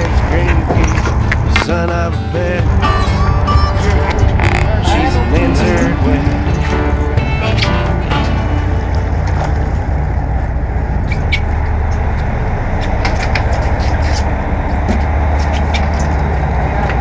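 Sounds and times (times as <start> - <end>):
boat engines running: 0.0 - 17.0.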